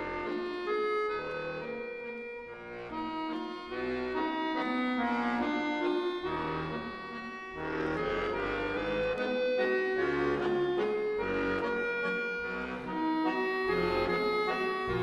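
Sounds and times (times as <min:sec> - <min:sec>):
melancholy accordion melody: 0:00.0 - 0:15.0.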